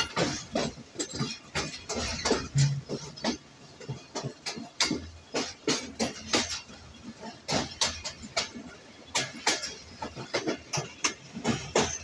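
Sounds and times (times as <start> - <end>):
train low rumble: 0.0 - 12.0
train wheels clacking: 0.0 - 12.0.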